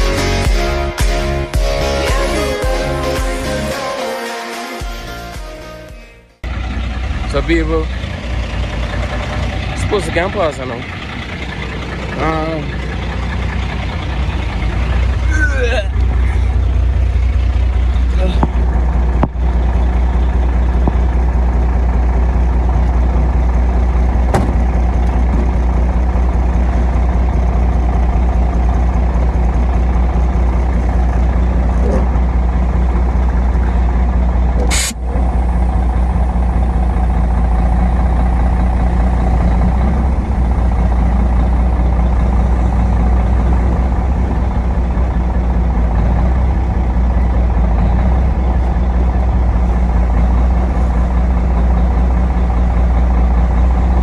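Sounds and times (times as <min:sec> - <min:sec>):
diesel truck engine running: 0:00.0 - 0:03.8, 0:05.0 - 0:54.0.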